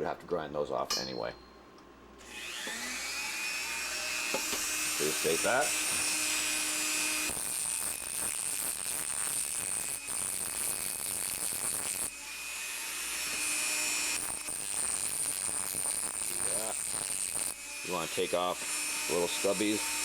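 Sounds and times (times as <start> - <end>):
rotary tool grinding metal: 2.2 - 20.0.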